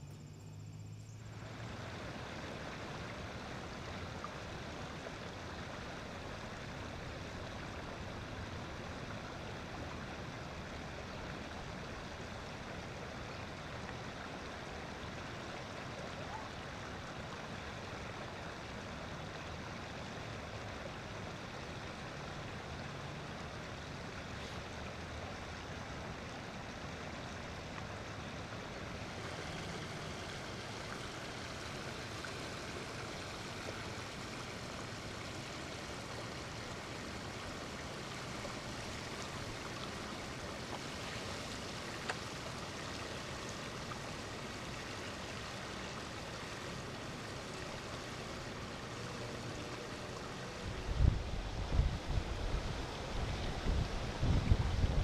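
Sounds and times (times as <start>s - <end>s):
outdoor ambient hiss: 0.0s - 55.0s.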